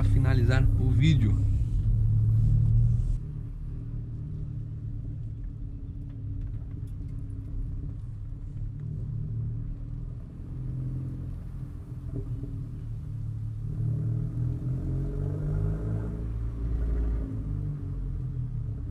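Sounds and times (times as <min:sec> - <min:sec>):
car engine idling with exhaust rumble: 0:00.0 - 0:15.3.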